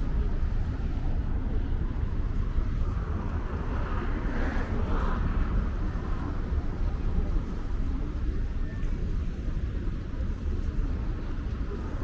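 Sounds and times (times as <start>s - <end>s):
street traffic noise: 0.0s - 12.0s
wind rumbling on microphone: 0.0s - 12.0s.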